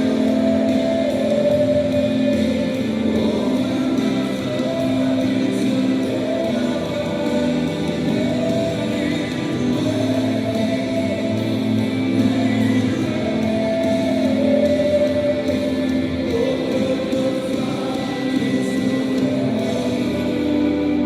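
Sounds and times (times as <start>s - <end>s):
choir singing gospel: 0.0s - 21.0s.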